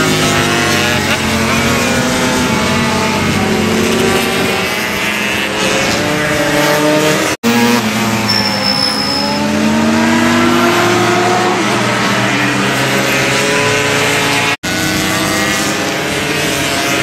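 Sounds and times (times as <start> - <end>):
racing motorcycle engines: 0.0 - 17.0.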